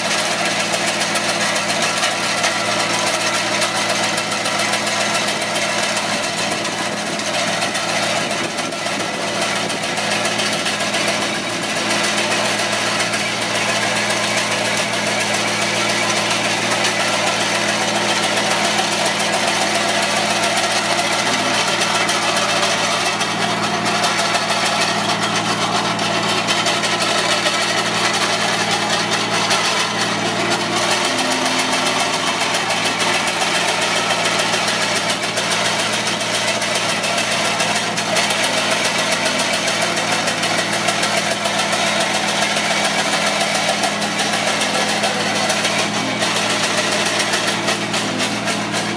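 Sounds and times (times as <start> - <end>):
diesel engine under load: 0.0 - 48.9
hedge trimmer cutting branches: 0.0 - 48.9.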